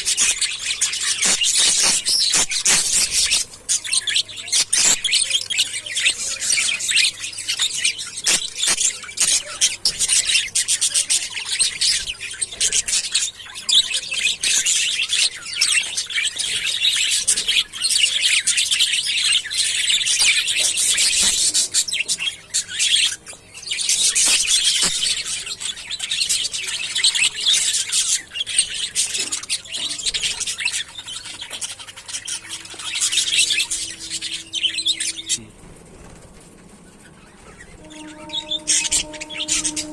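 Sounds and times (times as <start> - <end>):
budgerigars chattering: 0.0 - 35.4.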